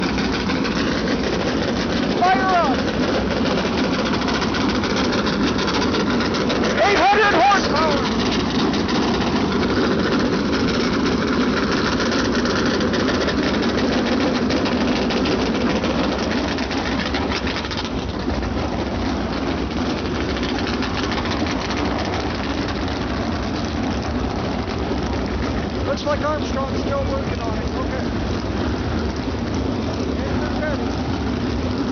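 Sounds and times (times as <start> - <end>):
race car engines idling: 0.0 - 31.9.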